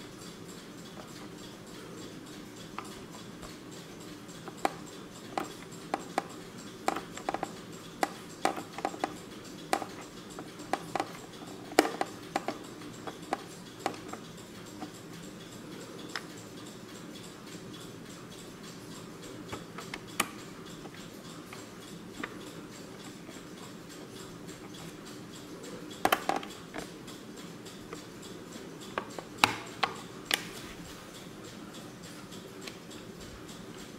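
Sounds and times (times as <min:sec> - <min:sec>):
flip clock flaps clicking: 0:00.0 - 0:16.4, 0:18.3 - 0:30.7.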